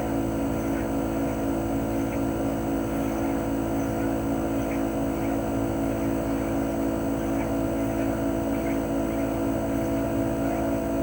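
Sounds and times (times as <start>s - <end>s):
air conditioner outdoor unit humming: 0.0s - 11.0s.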